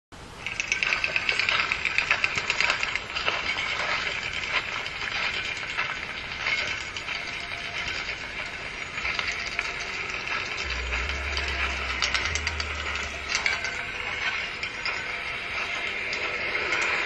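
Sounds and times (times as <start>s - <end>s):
rapid mechanical clicking: 0.2s - 17.0s.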